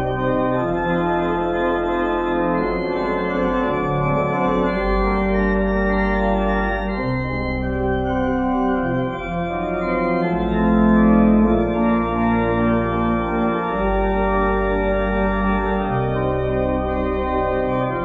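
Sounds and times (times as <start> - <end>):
church organ playing chords: 0.0 - 18.0.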